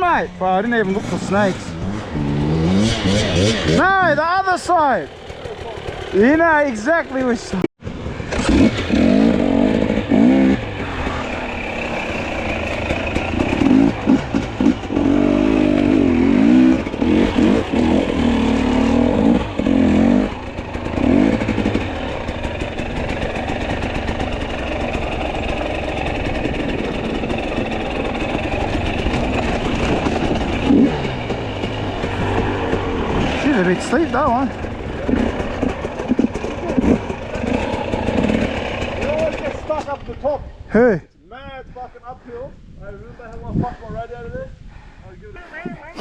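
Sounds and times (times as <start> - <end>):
dirt bike engine revving: 0.0 - 40.1.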